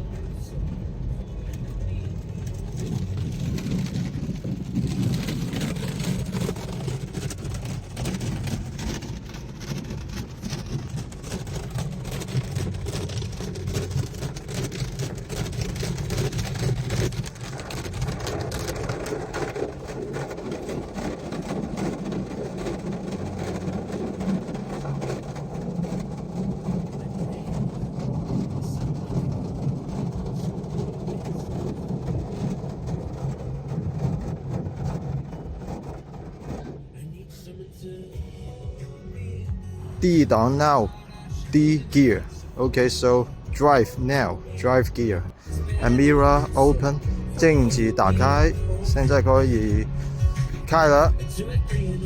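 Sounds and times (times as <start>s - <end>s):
car wash machinery: 0.0s - 52.0s.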